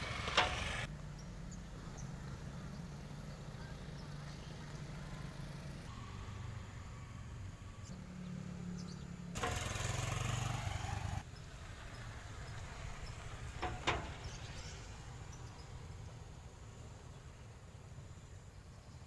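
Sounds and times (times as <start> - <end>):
vehicle engine running: 0.0 - 17.3.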